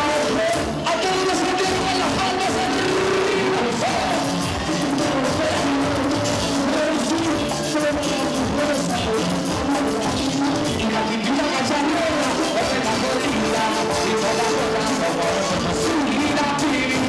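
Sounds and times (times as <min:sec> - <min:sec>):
electric bass: 0:00.0 - 0:17.0
electronic keyboard: 0:00.0 - 0:17.0
percussion: 0:00.0 - 0:17.0
person singing: 0:00.0 - 0:17.0.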